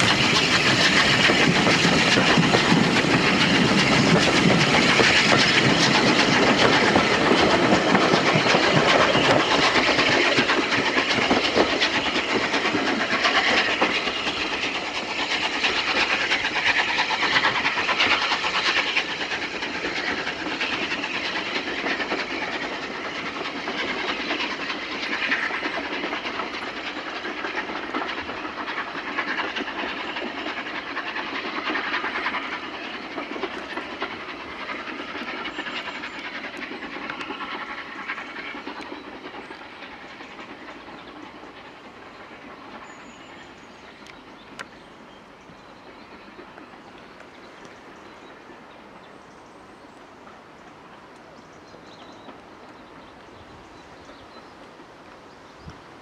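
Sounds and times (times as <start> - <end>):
steam locomotive hauling coaches: 0.0 - 56.0.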